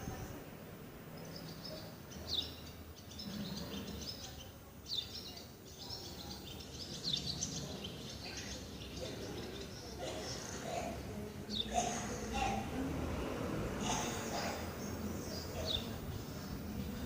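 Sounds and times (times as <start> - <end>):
birds chirping: 0.0 - 17.0
steady background noise: 0.0 - 17.0.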